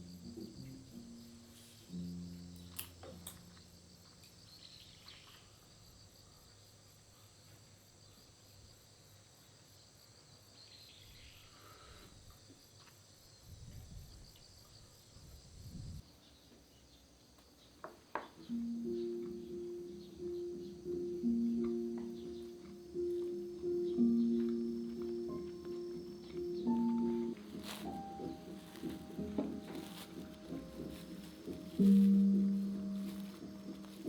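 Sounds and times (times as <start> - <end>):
crickets chirring: 0.0 - 34.0.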